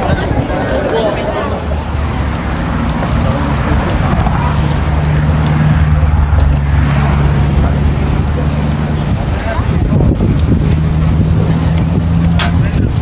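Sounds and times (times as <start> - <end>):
low hum: 0.0 - 12.8
wind and road noise: 0.0 - 13.0.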